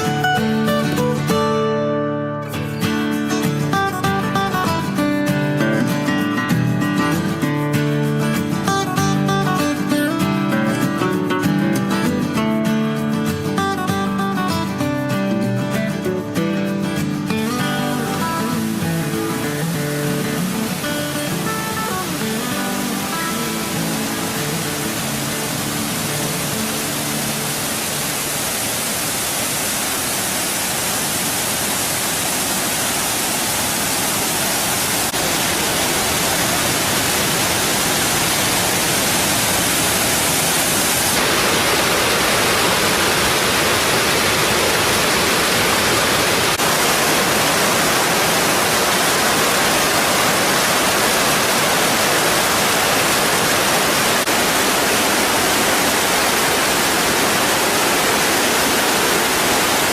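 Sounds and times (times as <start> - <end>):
waterfall rushing: 0.0 - 1.8, 2.5 - 12.4, 13.0 - 59.9.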